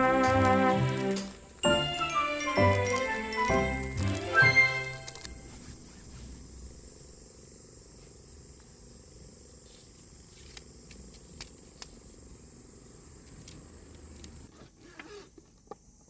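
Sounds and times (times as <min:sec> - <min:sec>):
high hiss: 0:00.0 - 0:14.5.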